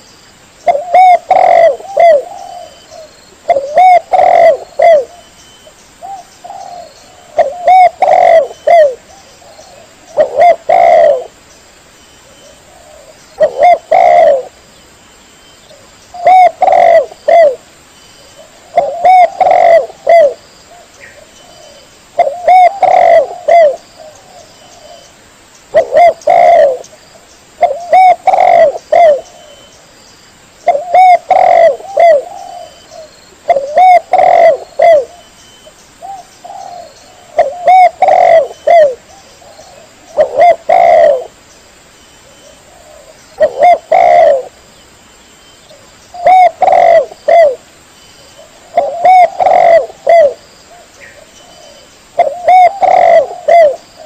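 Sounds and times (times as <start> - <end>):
dove cooing: 0.6 - 5.3, 6.0 - 11.4, 12.2 - 14.6, 15.7 - 17.6, 18.4 - 25.1, 25.7 - 26.9, 27.6 - 29.7, 30.6 - 35.3, 36.0 - 41.4, 42.2 - 44.6, 45.7 - 47.7, 48.4 - 54.0.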